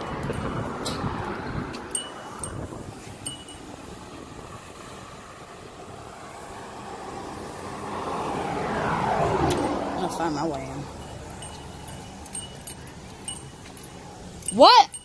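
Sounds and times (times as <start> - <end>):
outdoor background noise: 0.0 - 15.0
vehicle passing: 0.0 - 15.0.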